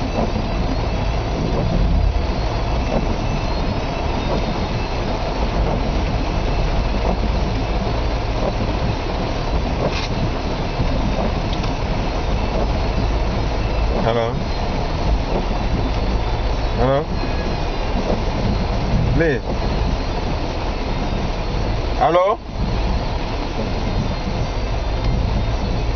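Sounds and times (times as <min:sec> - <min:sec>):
heavy rain on car roof: 0:00.0 - 0:25.9.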